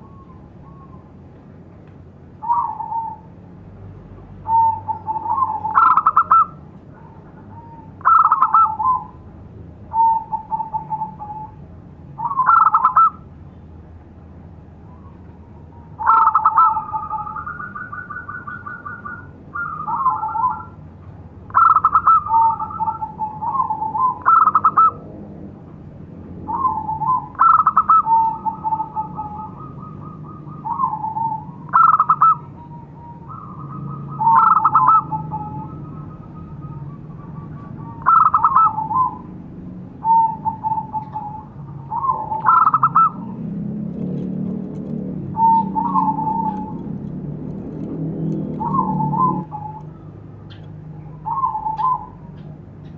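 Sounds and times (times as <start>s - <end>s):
dove cooing: 2.4s - 3.3s, 4.4s - 9.2s, 9.9s - 11.6s, 12.2s - 13.3s, 15.6s - 20.8s, 21.5s - 25.1s, 26.4s - 52.9s.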